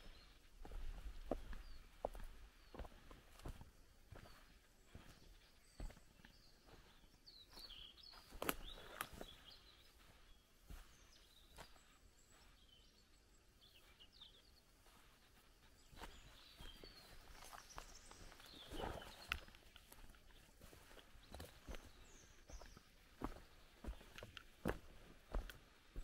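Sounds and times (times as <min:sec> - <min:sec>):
footsteps on forest floor: 0:00.0 - 0:13.0, 0:14.7 - 0:26.0
small birds chirping: 0:00.0 - 0:26.0.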